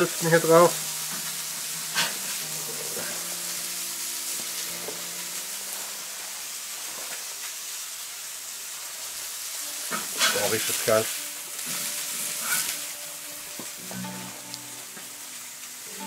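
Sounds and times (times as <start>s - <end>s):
burger patties sizzling on grill: 0.0s - 16.0s.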